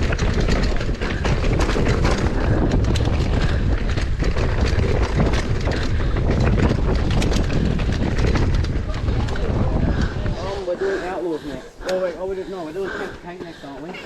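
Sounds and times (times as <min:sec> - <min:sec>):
bike tyre rumble on dirt: 0:00.0 - 0:13.5
wind rush on microphone: 0:00.0 - 0:13.6
bike rattling and clicking: 0:00.0 - 0:14.0.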